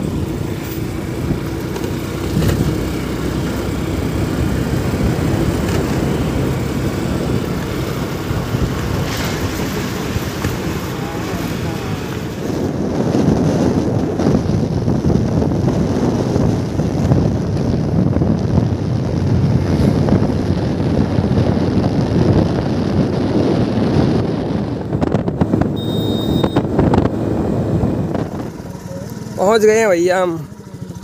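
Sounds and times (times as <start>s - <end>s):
scooter engine and tyre noise: 0.0s - 31.0s
wind buffeting microphone: 0.0s - 31.0s.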